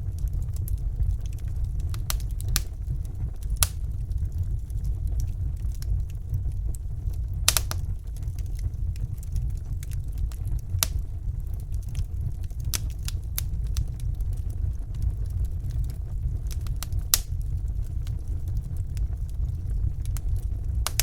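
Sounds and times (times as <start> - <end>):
fire crackling and popping: 0.0 - 21.0
fire flames rumbling: 0.0 - 21.0.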